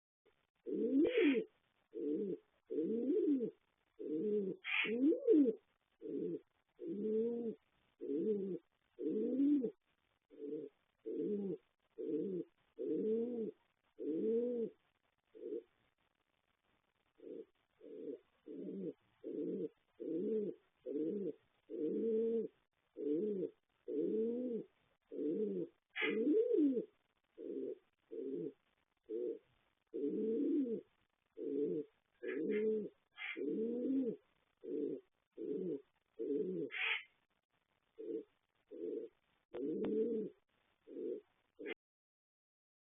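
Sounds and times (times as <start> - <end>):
bird cooing: 0.6 - 14.8, 17.2 - 37.1, 38.0 - 41.8.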